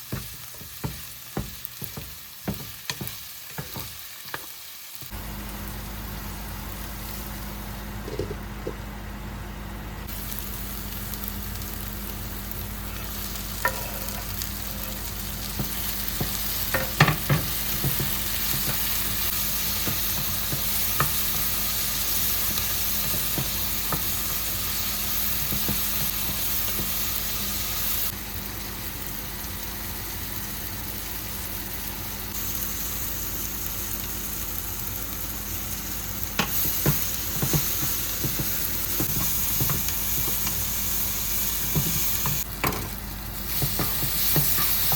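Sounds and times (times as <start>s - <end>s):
chicken sizzling in a pan: 0.0s - 8.4s, 10.0s - 44.9s.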